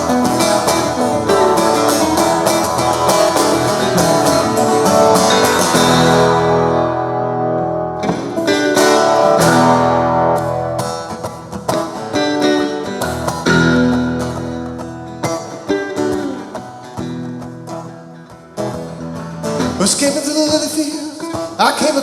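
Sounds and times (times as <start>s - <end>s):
guitar strumming chords: 0.0s - 21.6s.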